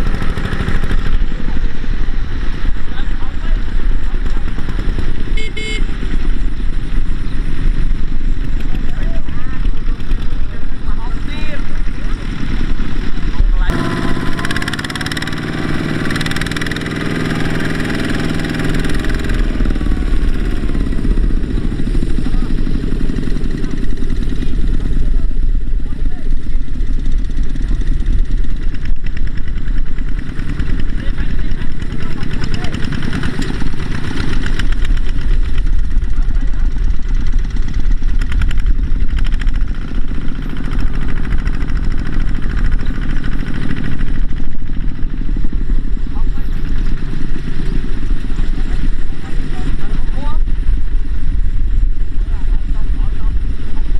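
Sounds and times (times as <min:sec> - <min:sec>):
diesel engine pulsing: 0:00.0 - 0:53.9.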